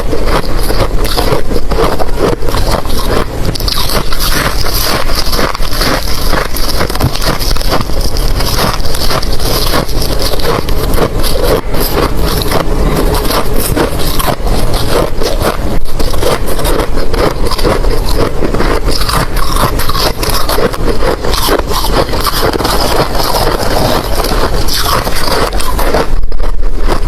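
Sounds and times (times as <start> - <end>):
ice being chewed: 0.0 - 27.0.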